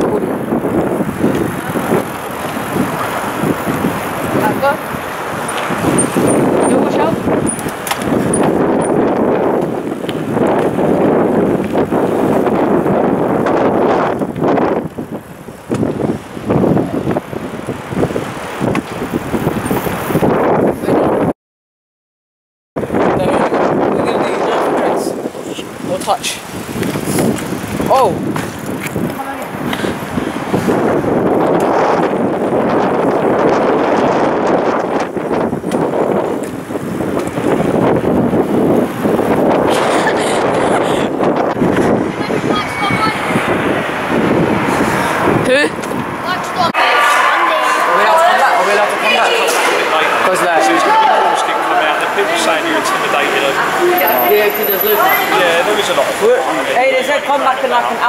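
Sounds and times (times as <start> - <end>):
bicycle tyres rolling on tarmac: 0.0 - 21.0, 22.8 - 58.0
wind buffeting microphone: 0.0 - 21.3, 22.8 - 58.0.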